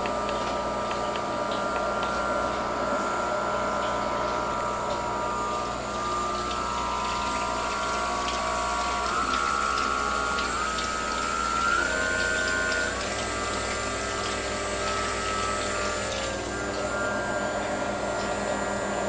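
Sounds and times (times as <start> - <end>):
electric spindle whine: 0.0 - 19.0.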